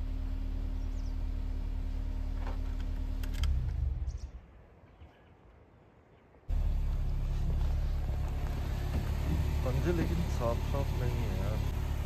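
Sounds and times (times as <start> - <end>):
vehicle engine idling: 0.0 - 4.5, 6.5 - 12.0.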